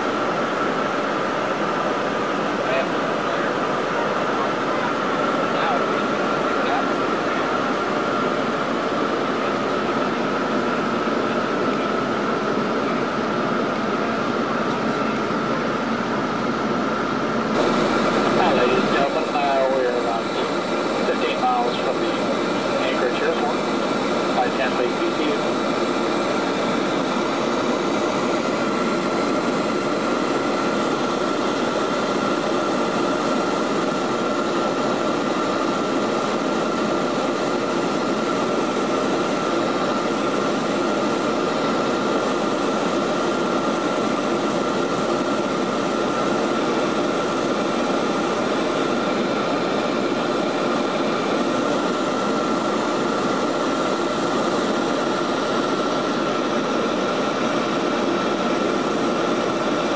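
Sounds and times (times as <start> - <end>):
turboprop cabin drone: 0.0 - 59.9.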